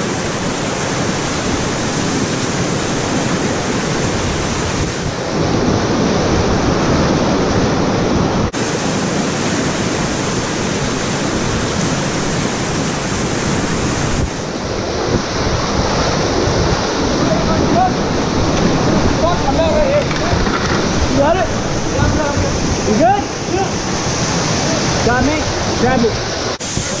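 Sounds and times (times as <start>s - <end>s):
water splashing against boat: 0.0s - 27.0s
whitewater roaring: 0.0s - 27.0s.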